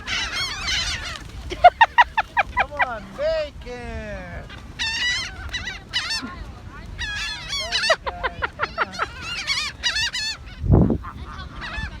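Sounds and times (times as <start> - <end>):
flock of birds squawking: 0.0 - 3.2, 4.4 - 12.0.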